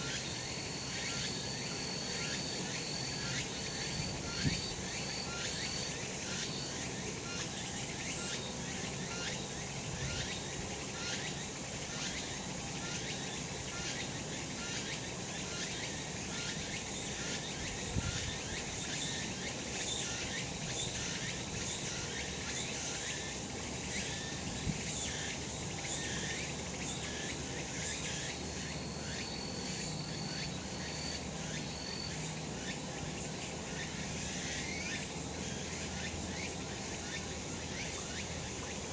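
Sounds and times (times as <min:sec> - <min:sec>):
cicadas singing: 0:00.0 - 0:38.9.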